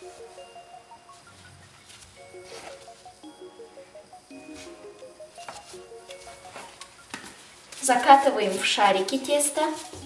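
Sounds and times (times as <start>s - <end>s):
light melody background music: 0.0s - 10.0s.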